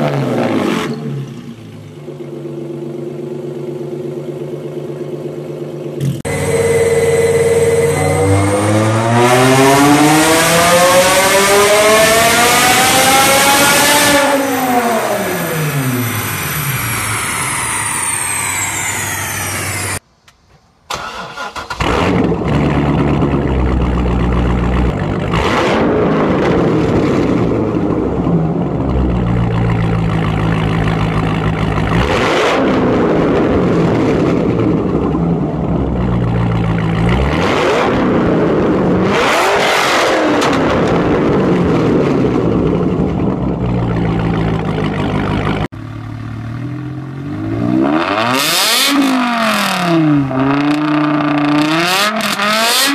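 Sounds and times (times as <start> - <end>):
car engine starting and revving: 0.0 - 5.0, 5.9 - 20.0, 20.9 - 52.9
engine winding down: 5.9 - 20.0, 20.9 - 52.9.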